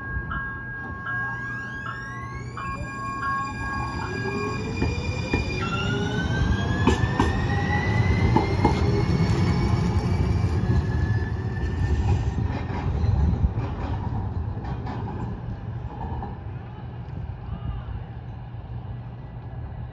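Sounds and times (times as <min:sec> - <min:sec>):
streetcar motor whine: 0:00.0 - 0:16.6
wheels rumbling on rails: 0:00.0 - 0:17.4.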